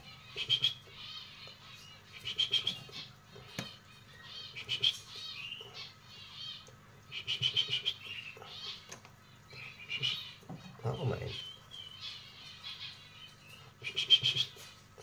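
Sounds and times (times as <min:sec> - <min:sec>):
canary chirping in trilled bursts: 0:00.0 - 0:15.0.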